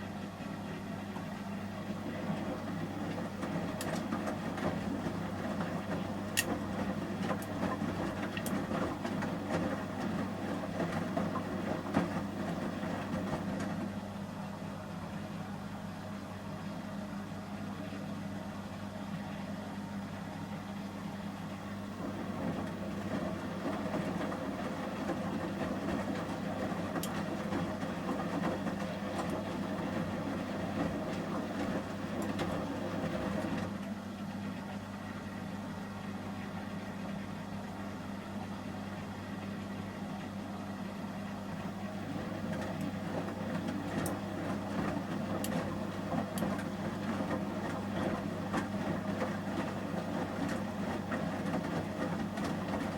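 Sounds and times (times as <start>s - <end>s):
drum tumbling laundry: 0.0s - 52.9s
washing machine motor hum: 0.0s - 52.9s.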